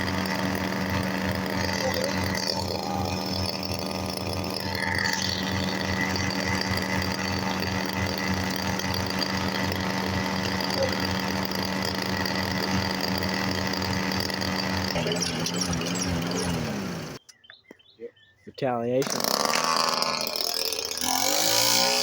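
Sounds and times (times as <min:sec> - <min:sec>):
lawn mower engine running: 0:00.0 - 0:17.2, 0:19.0 - 0:22.0.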